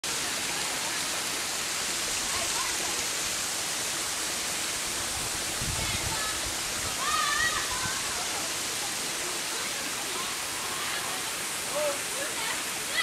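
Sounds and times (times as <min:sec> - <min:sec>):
mountain stream rushing over stones: 0:00.0 - 0:13.0.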